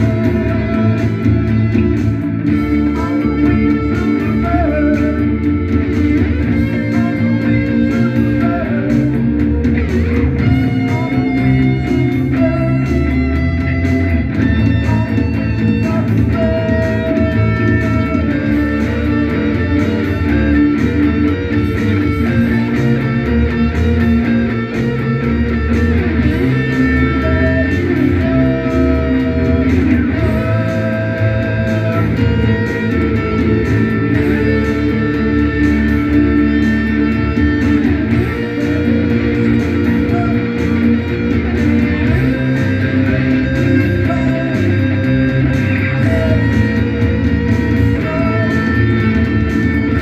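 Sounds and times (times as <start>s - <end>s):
electric guitar held notes: 0.0s - 50.0s
progressive rock band playing: 0.0s - 50.0s.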